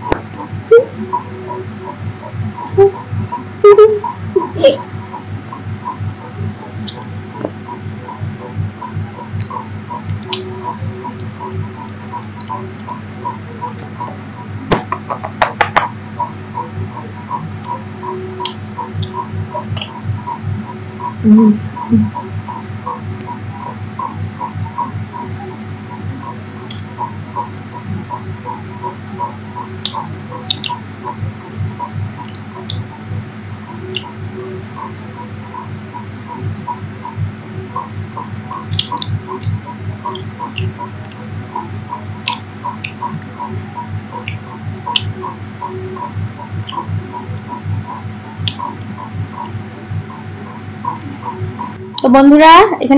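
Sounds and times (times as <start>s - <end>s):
pulsing electrical hum: 0.0s - 52.9s.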